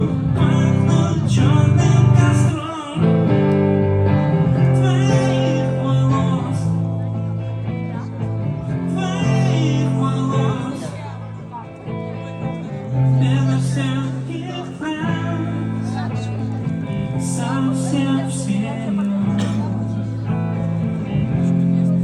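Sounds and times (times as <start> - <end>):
guitar: 0.0 - 22.0
person singing: 0.0 - 22.0.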